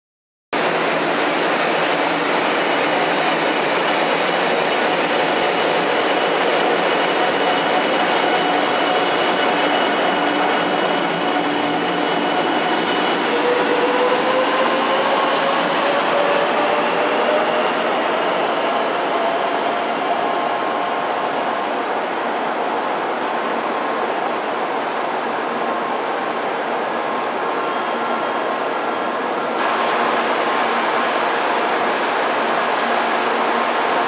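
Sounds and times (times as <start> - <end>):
train running noise: 0.6 - 34.0.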